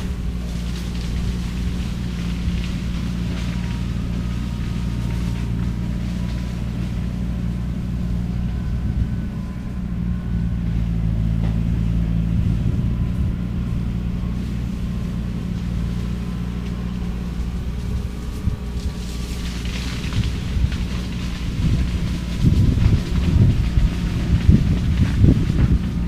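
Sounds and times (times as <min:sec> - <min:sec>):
engine and shredder running: 0:00.0 - 0:26.0.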